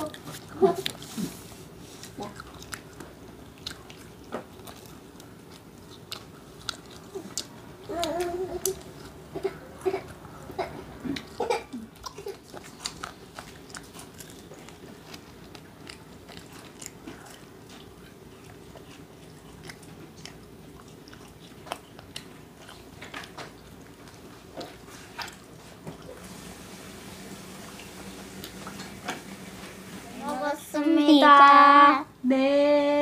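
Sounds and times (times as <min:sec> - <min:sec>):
biting and chewing crisp food: 0:00.0 - 0:29.9.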